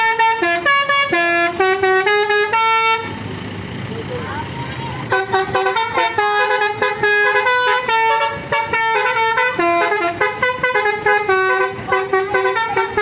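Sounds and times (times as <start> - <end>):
bus horn playing fast melody: 0.0 - 3.2, 5.0 - 13.0.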